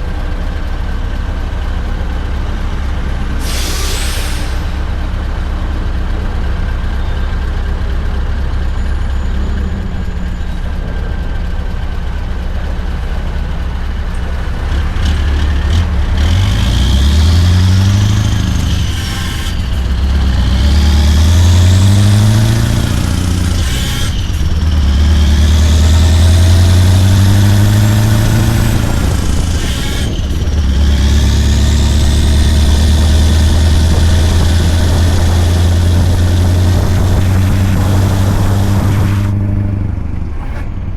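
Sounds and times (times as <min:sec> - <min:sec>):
truck engine accelerating: 0:00.0 - 0:40.9.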